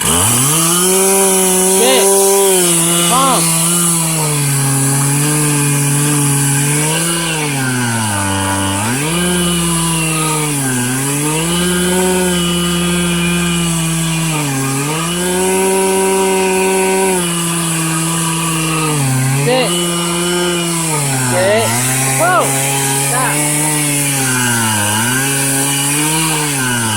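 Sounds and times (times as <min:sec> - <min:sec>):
chainsaw cutting log: 0:00.0 - 0:26.9.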